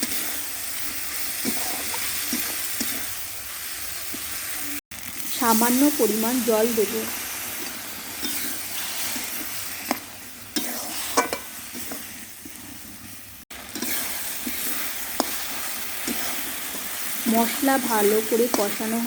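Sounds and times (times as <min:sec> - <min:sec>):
spice paste sizzling in oil: 0:00.0 - 0:19.0.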